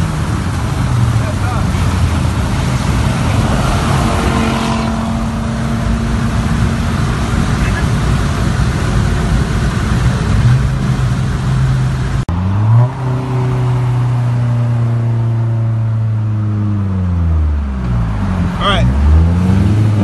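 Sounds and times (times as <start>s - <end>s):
car engine at speed: 0.0s - 20.0s
road noise: 0.0s - 20.0s.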